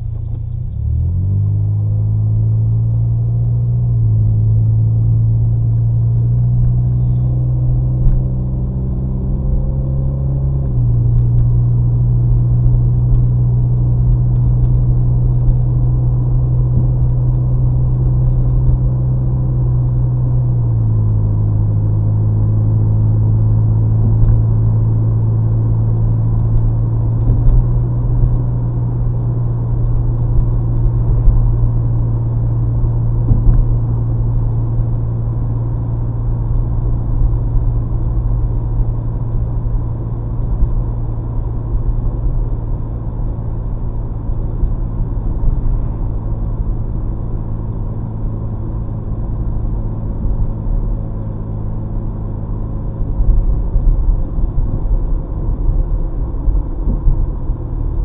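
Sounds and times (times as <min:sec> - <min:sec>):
car cabin exhaust hum: 0:00.0 - 0:58.0
tyre and road rumble: 0:00.0 - 0:58.0.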